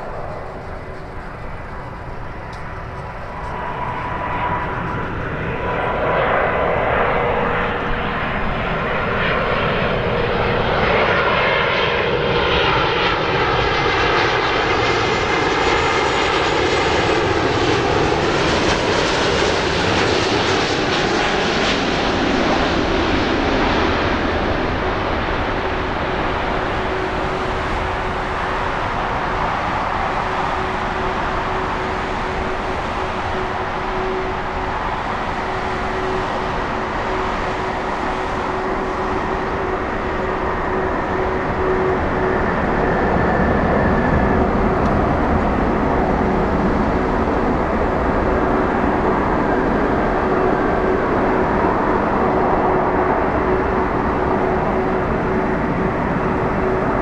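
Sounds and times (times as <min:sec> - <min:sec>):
jet airliner passing overhead: 0:00.0 - 0:57.0.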